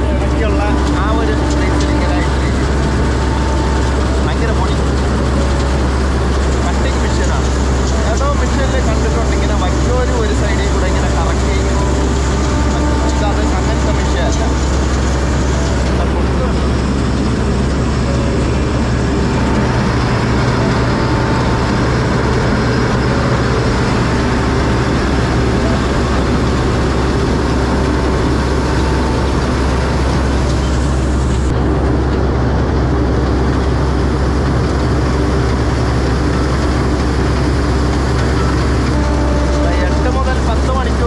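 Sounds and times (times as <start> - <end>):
combine harvester engine drone: 0.0 - 41.0.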